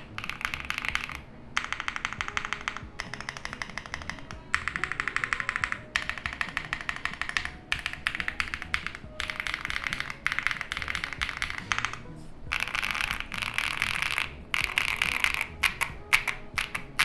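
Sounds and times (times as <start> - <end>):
fast typing on mechanical keyboard: 0.0 - 17.0.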